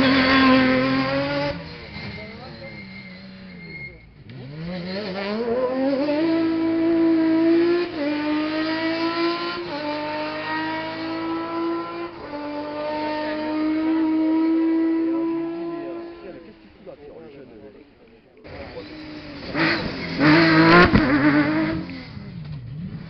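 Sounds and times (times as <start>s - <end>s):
rally car engine accelerating: 0.0s - 16.8s, 18.4s - 23.0s.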